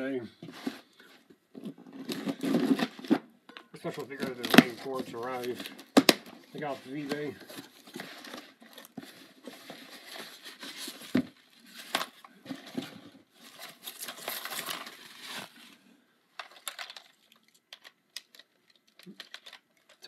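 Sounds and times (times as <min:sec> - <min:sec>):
packing paper rustling and crinkling: 0:00.4 - 0:03.2, 0:03.8 - 0:20.0.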